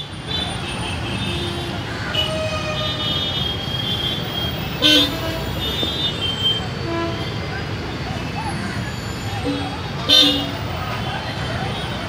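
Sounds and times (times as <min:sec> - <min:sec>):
steady outdoor din: 0:00.0 - 0:12.0.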